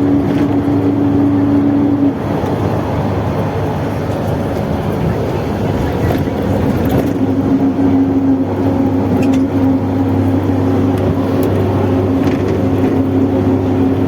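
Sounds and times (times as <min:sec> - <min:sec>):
bus diesel engine running: 0:00.0 - 0:14.0
driveshaft droning hum: 0:00.0 - 0:14.0.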